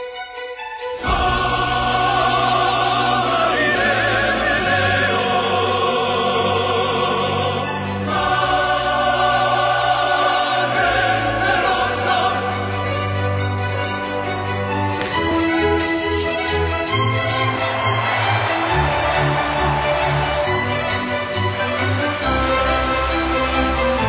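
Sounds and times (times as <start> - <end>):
choir and operatic voices singing: 0.8 - 24.0.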